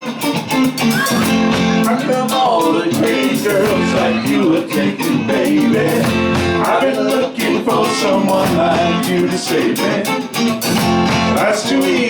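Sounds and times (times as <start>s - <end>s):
guitar: 0.0s - 12.0s
live band playing: 0.0s - 12.0s.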